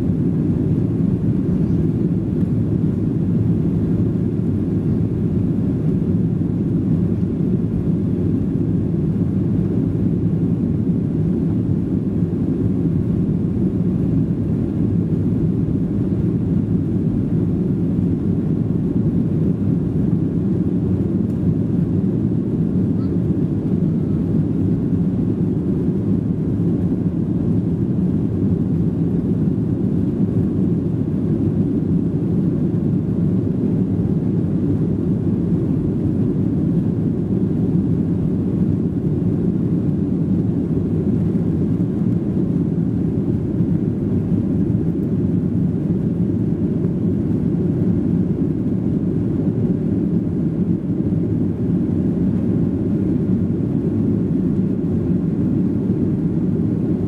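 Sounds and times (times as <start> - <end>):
airplane cabin engine noise: 0.0 - 57.0.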